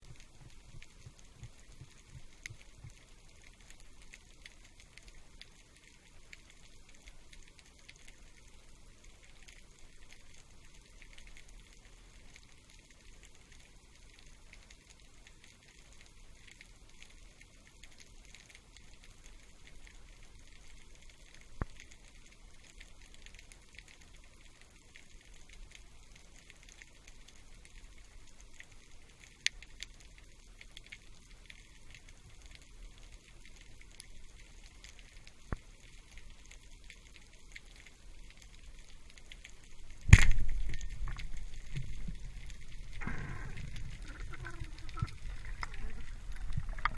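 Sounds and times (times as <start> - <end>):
underwater crackling: 0.0 - 46.9.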